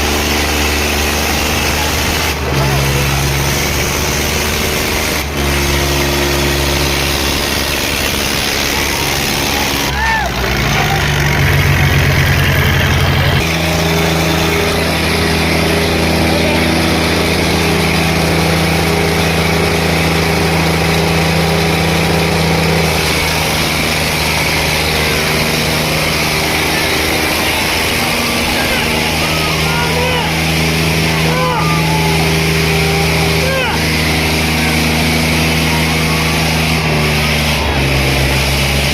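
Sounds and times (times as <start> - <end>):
diesel tractor engines running: 0.0 - 38.9.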